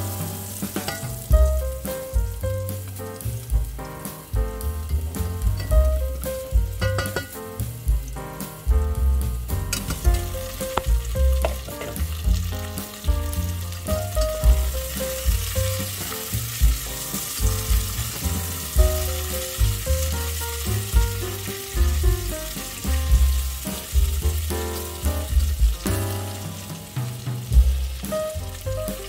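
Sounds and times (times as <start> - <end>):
background music with bass: 0.0 - 29.0
food sizzling in a pot: 0.0 - 29.0.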